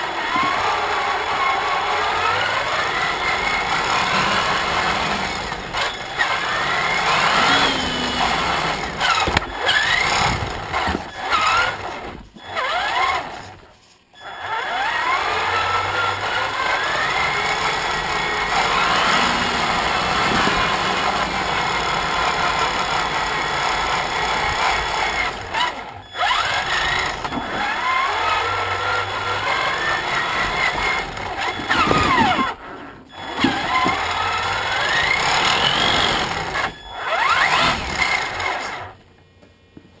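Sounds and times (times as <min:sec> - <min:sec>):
electric rc motor whining: 0:00.0 - 0:13.6, 0:14.2 - 0:39.0.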